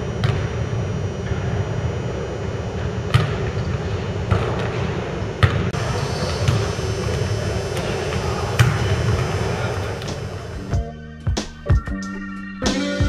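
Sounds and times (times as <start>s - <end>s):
steady background hiss: 0.0s - 10.8s.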